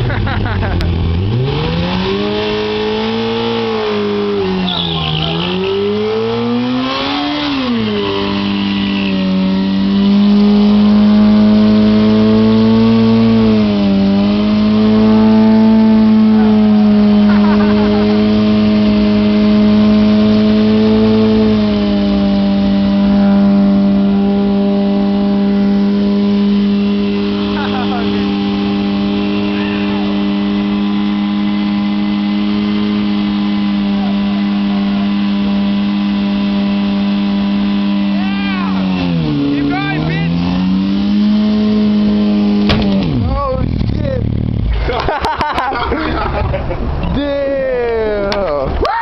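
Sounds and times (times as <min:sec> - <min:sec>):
motorcycle engine revving: 0:00.0 - 0:49.0
rear tire spinning in burnout: 0:00.0 - 0:49.0.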